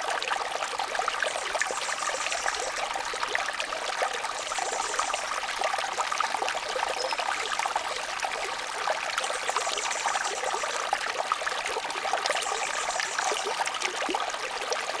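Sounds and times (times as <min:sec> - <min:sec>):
brook babbling over stones: 0:00.0 - 0:15.0.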